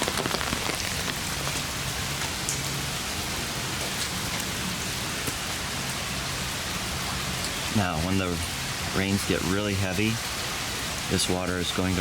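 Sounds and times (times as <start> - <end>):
water hissing steadily: 0.0 - 12.0.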